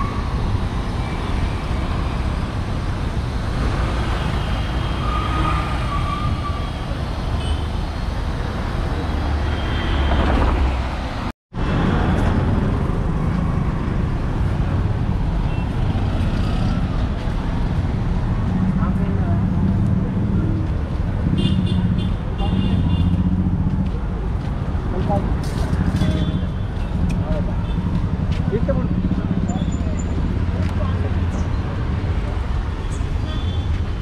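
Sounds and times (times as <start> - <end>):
road noise: 0.0 - 34.0.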